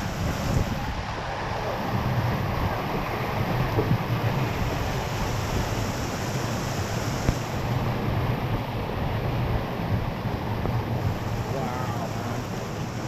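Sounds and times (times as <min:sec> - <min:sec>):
surf rushing: 0:00.0 - 0:13.0
wind buffeting microphone: 0:00.0 - 0:13.0.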